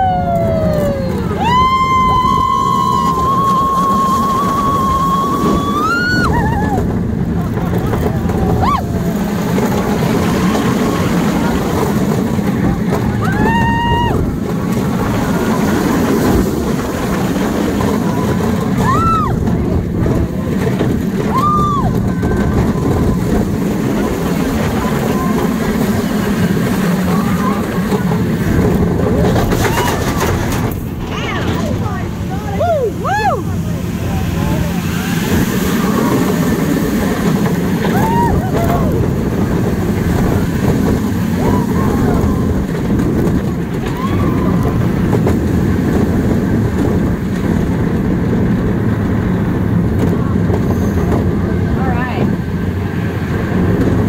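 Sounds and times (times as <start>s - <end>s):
roller coaster wheels rumbling: 0.0s - 54.0s
wind buffeting microphone: 0.0s - 54.0s.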